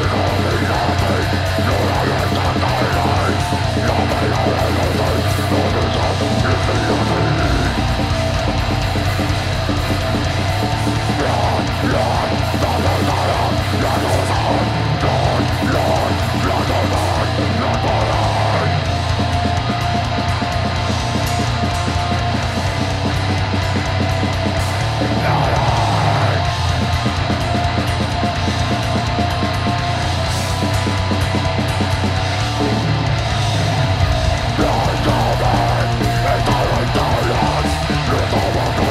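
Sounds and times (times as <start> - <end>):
bass guitar: 0.0 - 38.9
distorted guitars: 0.0 - 38.9
drum kit: 0.0 - 38.9
harsh vocals: 0.0 - 38.9.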